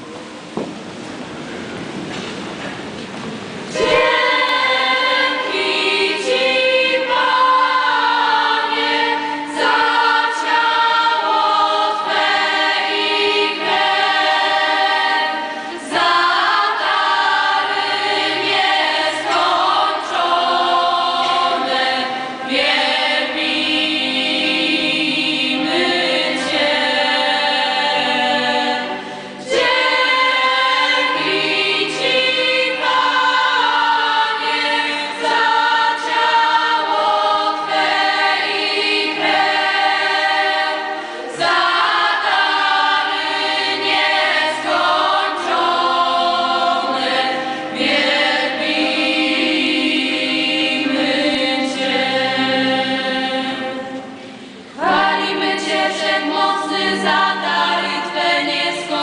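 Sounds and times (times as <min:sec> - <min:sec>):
choir singing a hymn: 0:03.6 - 0:59.0.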